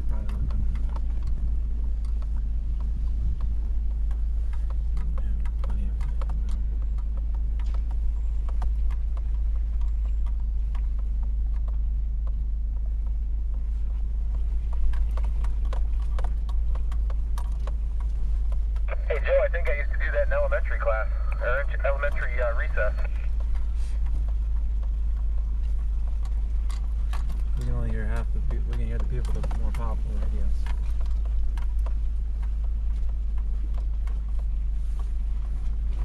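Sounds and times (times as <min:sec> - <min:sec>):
body and suspension rattles: 0:00.0 - 0:36.0
low engine rumble: 0:00.0 - 0:36.0.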